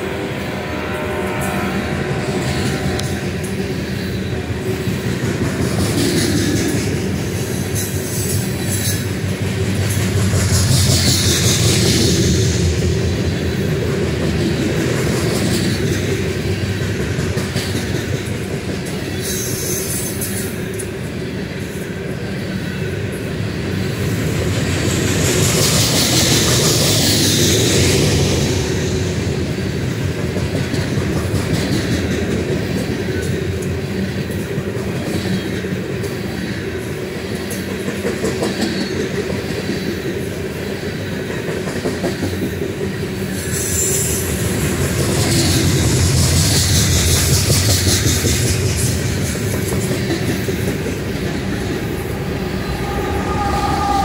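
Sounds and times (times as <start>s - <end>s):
train wheels rumbling on rails: 0.0s - 54.0s
clickety-clack over rail joints: 2.5s - 53.0s.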